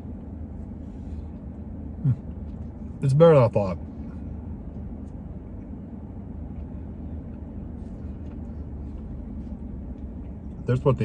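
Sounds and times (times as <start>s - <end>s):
car idling rumble: 0.0s - 11.0s.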